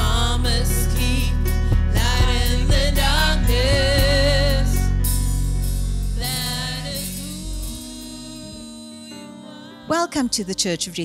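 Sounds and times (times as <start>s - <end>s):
person singing with vibrato: 0.0s - 5.3s, 6.0s - 10.2s
digital piano and bass chords: 0.0s - 11.0s.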